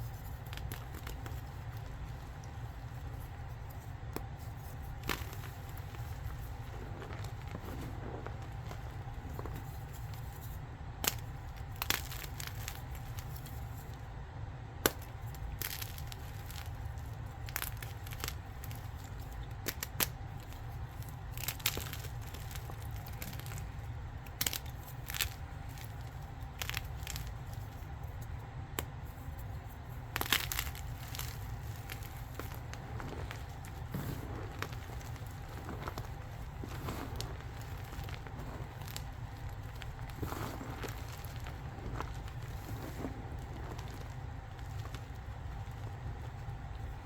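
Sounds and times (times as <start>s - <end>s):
chalk block crunching: 0.0s - 13.9s, 14.8s - 27.8s, 29.4s - 46.4s
steady low hum: 0.0s - 47.0s.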